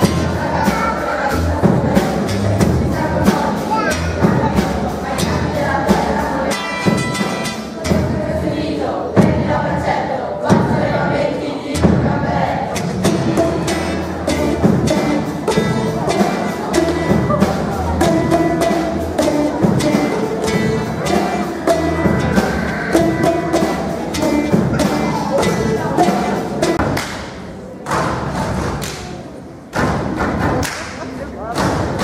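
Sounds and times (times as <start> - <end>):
boomwhackers struck in rhythm: 0.0 - 11.2, 11.8 - 32.0.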